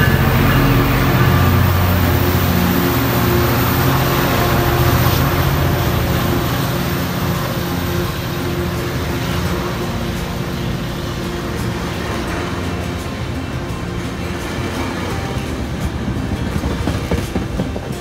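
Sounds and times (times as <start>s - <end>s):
diesel locomotive engine hum: 0.0s - 18.0s
rail and wheel noise: 0.0s - 18.0s.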